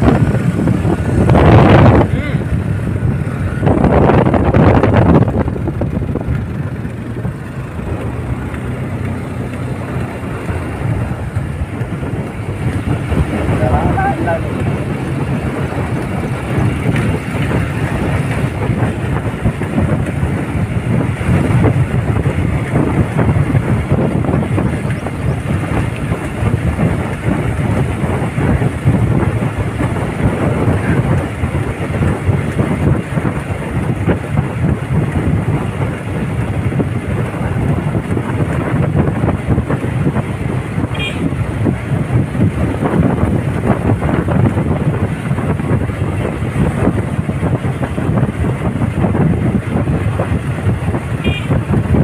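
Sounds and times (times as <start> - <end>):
vehicle noise: 0.0 - 52.0
wind rush: 0.0 - 52.0.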